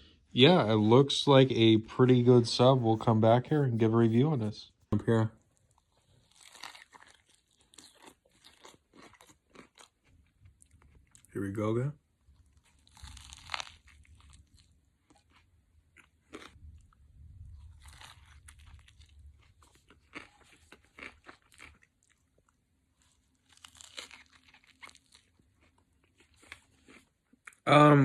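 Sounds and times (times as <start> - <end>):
faint chewing and crunching: 4.9 - 27.7.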